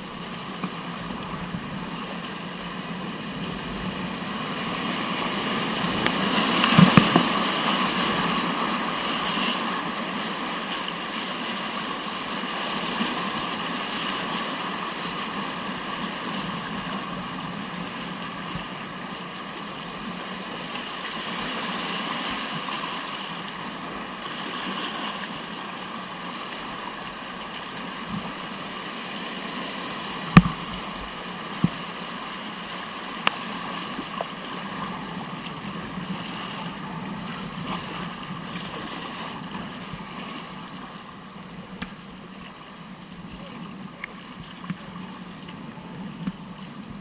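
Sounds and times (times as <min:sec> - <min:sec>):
whitewater rushing: 0:00.0 - 0:47.0.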